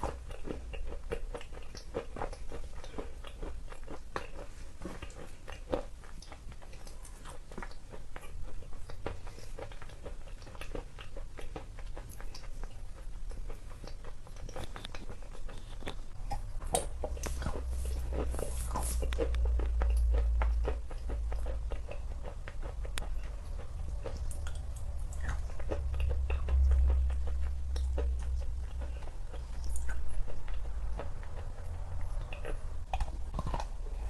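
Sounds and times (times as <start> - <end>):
person chewing chalk crunching: 0.0 - 34.0.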